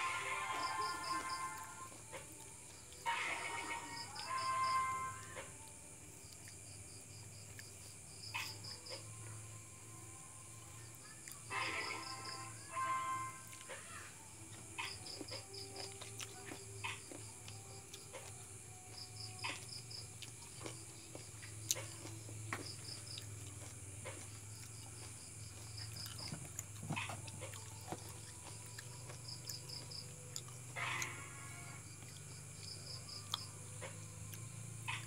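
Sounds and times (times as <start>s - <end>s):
high-pitched insect hum: 0.0s - 35.0s
night insects chirping: 0.0s - 35.0s.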